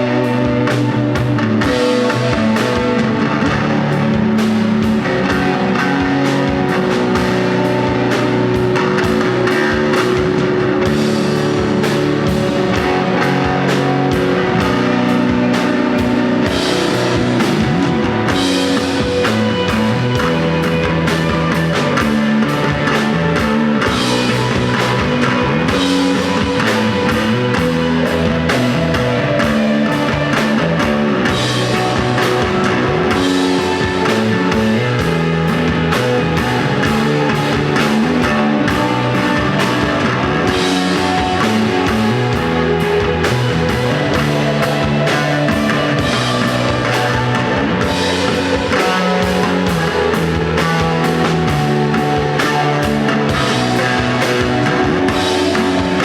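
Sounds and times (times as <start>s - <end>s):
drum and cymbal strokes: 0.0s - 56.0s
electric guitar: 0.0s - 56.0s.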